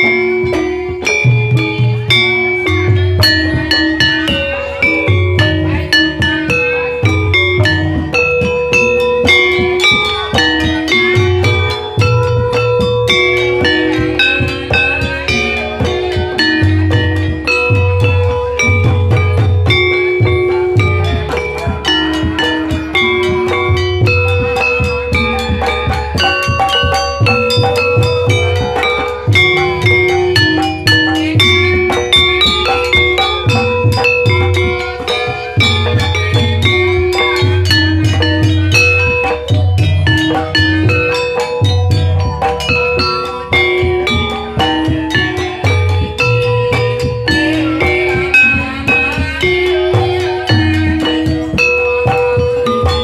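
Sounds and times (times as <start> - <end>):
gamelan music: 0.0 - 53.0
steady drum beat: 0.0 - 53.0.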